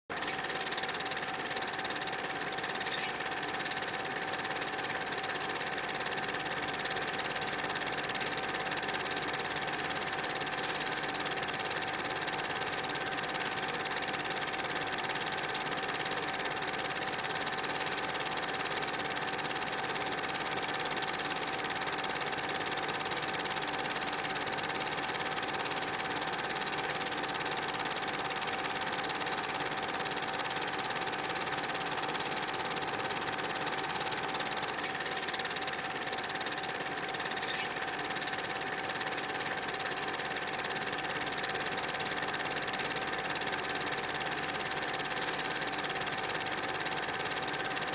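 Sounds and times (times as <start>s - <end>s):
film projector whirring: 0.1s - 47.9s.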